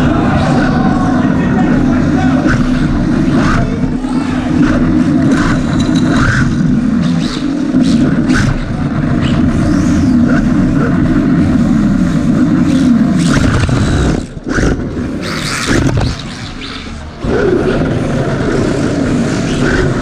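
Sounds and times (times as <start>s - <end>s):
rattling and tyre noise: 0.0s - 20.0s.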